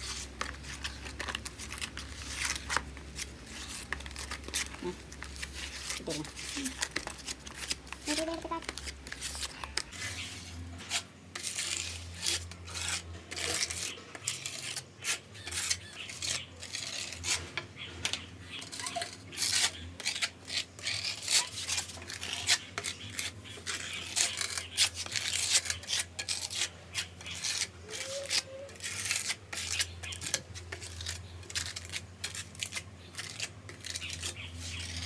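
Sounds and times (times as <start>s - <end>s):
hand rubbing and scraping strokes: 0.0s - 35.0s.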